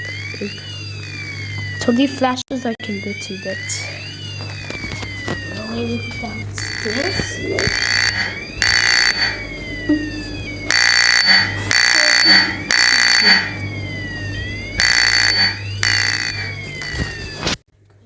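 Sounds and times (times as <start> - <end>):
fire alarm horn blasts: 0.0 - 17.6
sweeping alarm tone: 0.0 - 17.6.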